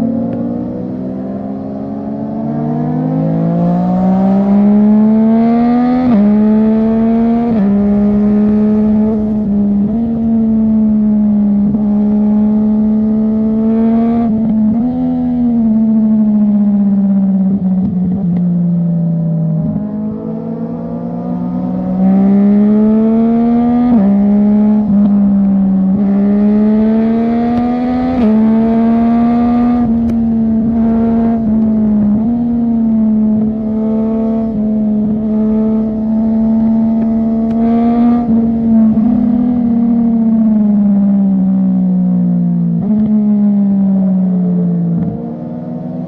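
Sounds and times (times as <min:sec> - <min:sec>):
motorcycle engine shifting gears: 0:00.0 - 0:46.0.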